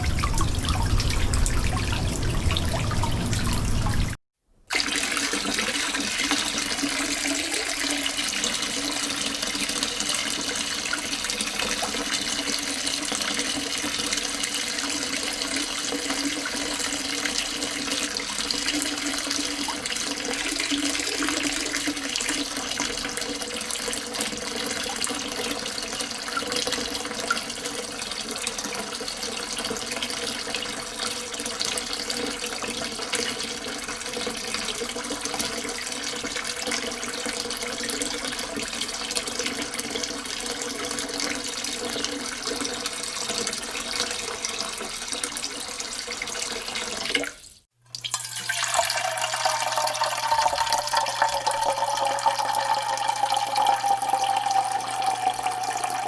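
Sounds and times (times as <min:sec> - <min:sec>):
water pouring into sink: 0:00.0 - 0:56.0.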